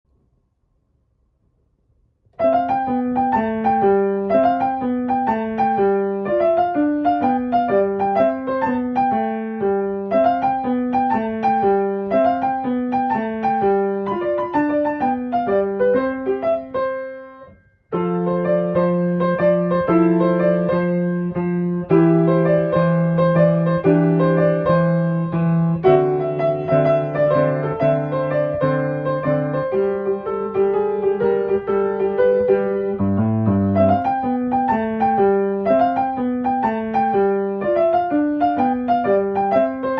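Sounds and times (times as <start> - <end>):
piano music: 2.3 - 39.9.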